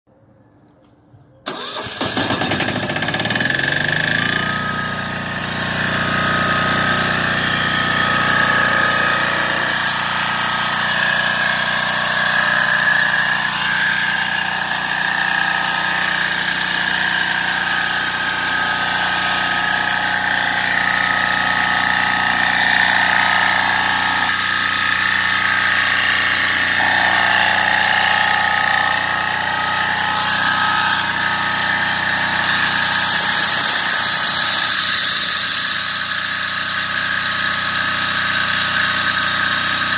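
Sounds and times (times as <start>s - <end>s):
diesel generator engine running: 1.5s - 39.9s.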